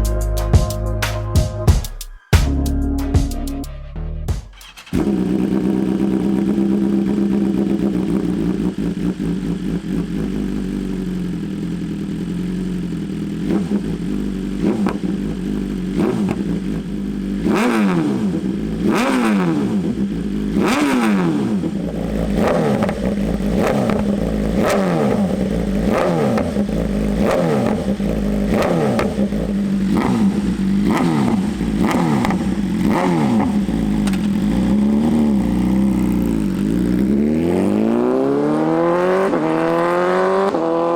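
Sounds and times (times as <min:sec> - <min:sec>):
motorcycle engine idling and revving: 0:04.3 - 0:40.9.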